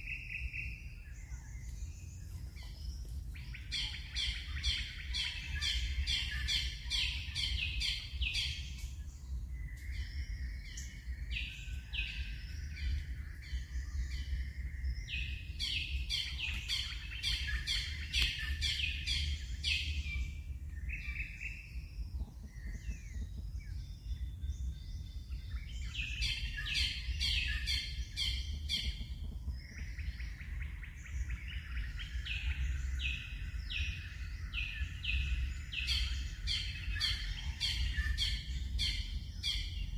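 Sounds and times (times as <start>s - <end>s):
small birds chirping: 0.0s - 39.9s
steady low rumble: 0.0s - 39.9s.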